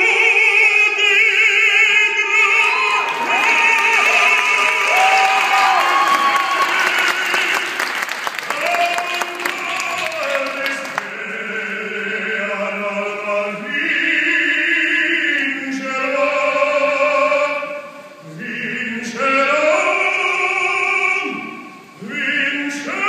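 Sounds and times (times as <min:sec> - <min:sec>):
male opera singer: 0:00.0 - 0:23.0.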